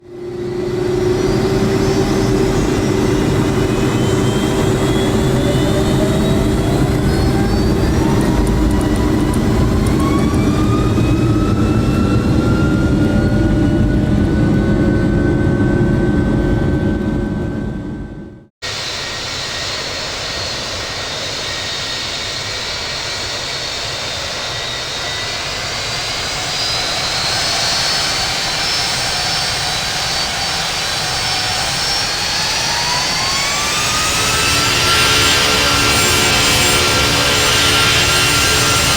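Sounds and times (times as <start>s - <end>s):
jet engines on takeoff: 0.0s - 38.9s.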